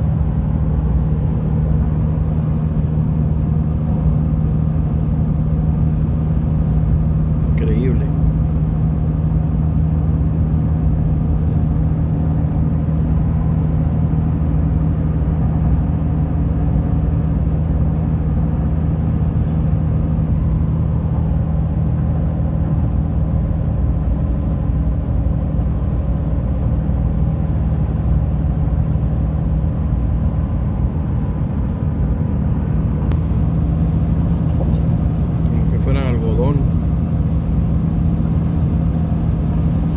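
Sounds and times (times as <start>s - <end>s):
car road and engine drone: 0.0s - 39.9s.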